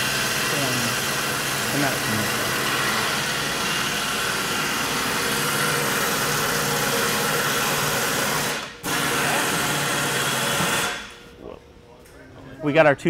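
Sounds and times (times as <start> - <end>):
machinery humming: 0.0 - 11.6.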